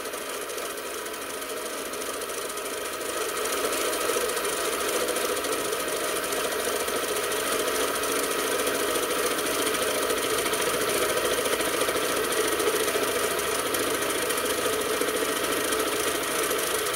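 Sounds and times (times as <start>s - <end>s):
lathe whirring: 0.0s - 16.9s.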